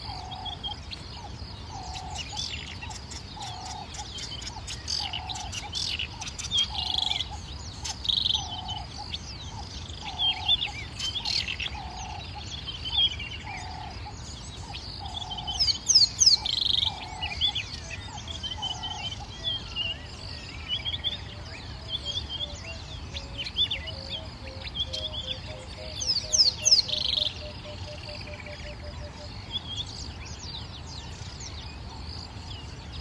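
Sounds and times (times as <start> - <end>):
small birds chirping and trilling: 0.0 - 33.0.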